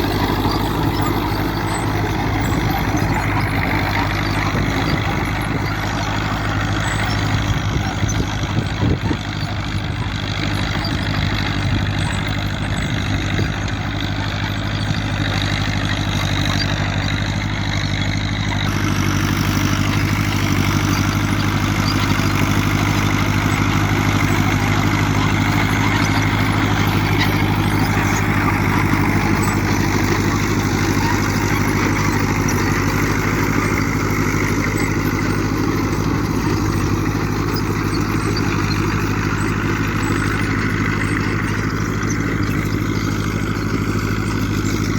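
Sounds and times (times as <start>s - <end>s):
short rattles: 0.0s - 44.9s
tractor diesel engine running: 0.0s - 44.9s.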